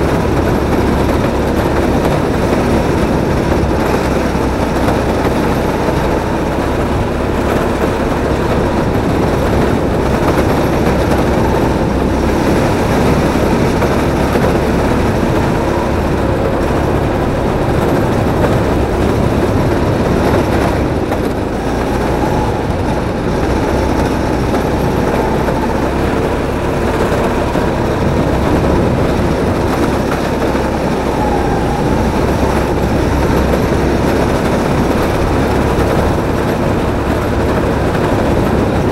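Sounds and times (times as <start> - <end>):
kart motor rumbling: 0.0 - 38.9
wheels sliding on concrete: 0.0 - 38.9.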